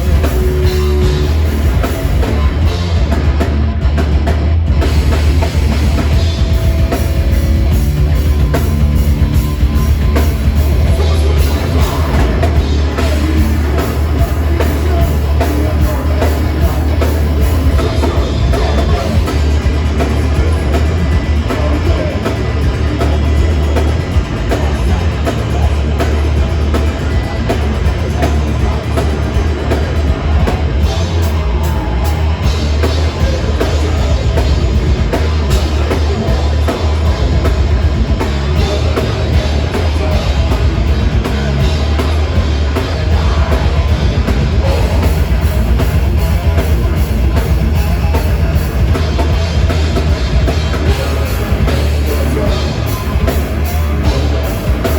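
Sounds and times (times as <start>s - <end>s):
drum kit: 0.0s - 54.9s
heavy metal band playing: 0.0s - 54.9s.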